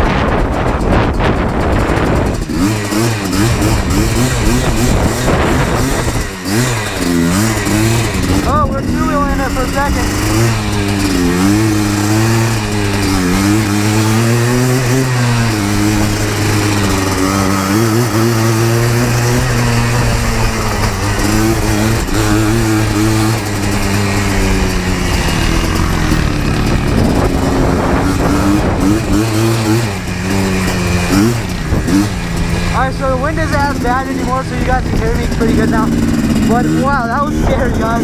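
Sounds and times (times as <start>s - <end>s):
two-stroke engine revving: 0.0s - 38.0s
wind rushing over microphone: 0.0s - 38.0s.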